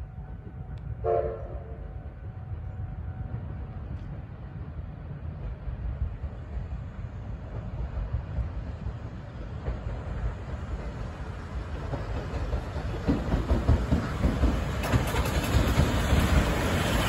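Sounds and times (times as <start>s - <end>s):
steam locomotive rumble: 0.0s - 17.0s
sharp clicks of train wheels: 3.3s - 17.0s.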